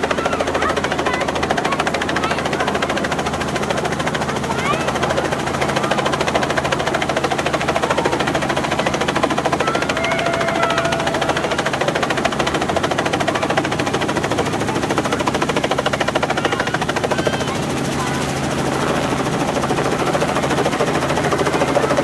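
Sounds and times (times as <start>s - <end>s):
helicopter rotor chop: 0.0s - 22.0s.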